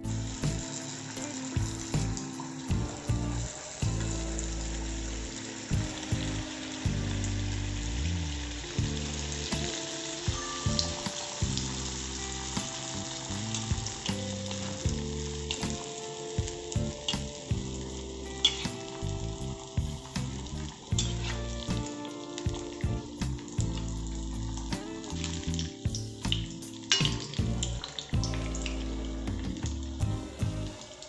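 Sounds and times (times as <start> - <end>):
oil sizzling and bubbling: 0.0 - 31.0.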